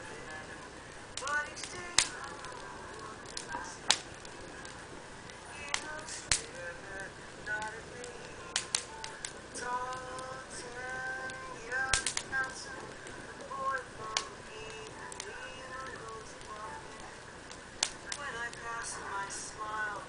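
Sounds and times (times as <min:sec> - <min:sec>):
burning wood crackling: 0:00.0 - 0:20.0.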